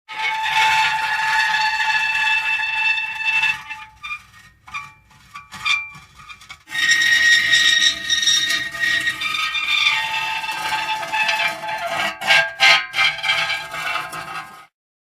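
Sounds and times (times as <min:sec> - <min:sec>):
metal creaking: 0:00.2 - 0:14.6.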